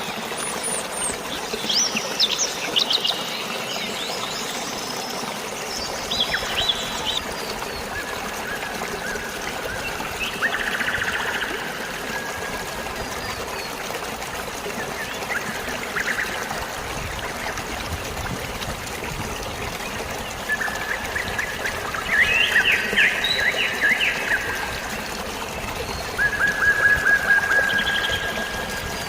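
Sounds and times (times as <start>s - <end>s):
birds chirping: 0.0s - 16.6s, 19.4s - 29.0s
flowing water: 0.0s - 29.0s.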